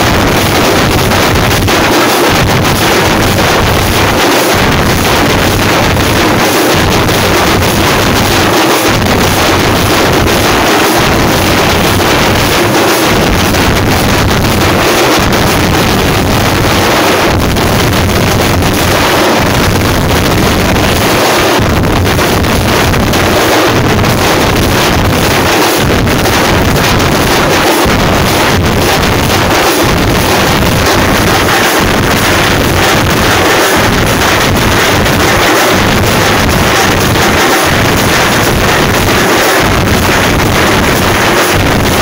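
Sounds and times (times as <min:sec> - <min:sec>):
distorted frame drums: 0:00.0 - 0:42.0.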